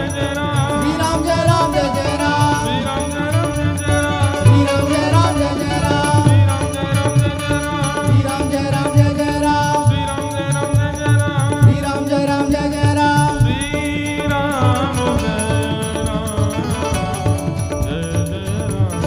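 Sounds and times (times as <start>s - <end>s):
held bending melody: 0.0s - 19.0s
rattling hand percussion: 0.0s - 19.0s.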